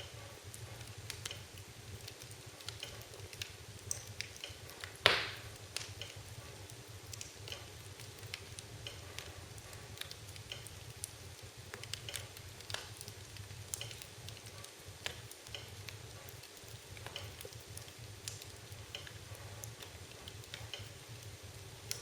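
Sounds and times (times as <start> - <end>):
wood fire crackling: 0.0 - 22.0
fire popping: 0.8 - 22.0.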